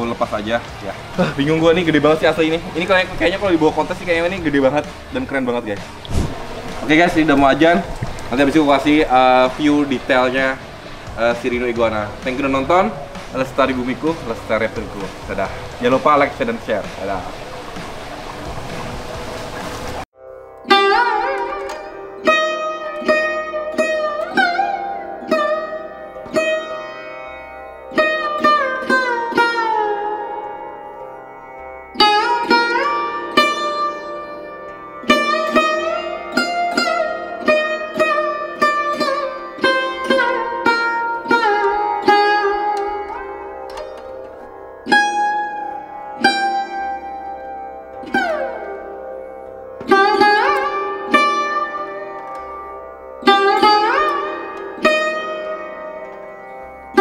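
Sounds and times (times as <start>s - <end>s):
plucked string instrument: 0.0s - 57.0s.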